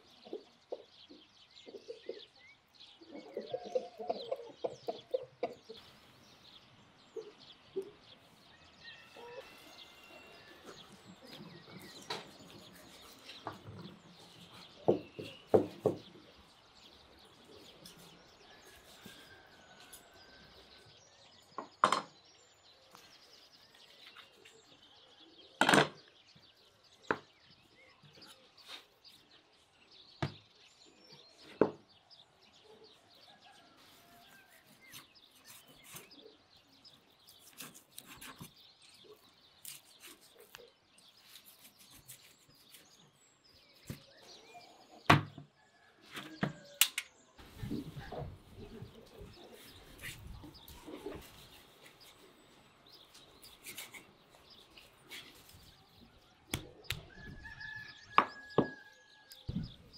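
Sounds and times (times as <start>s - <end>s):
faint birds chirping: 0.0s - 59.9s.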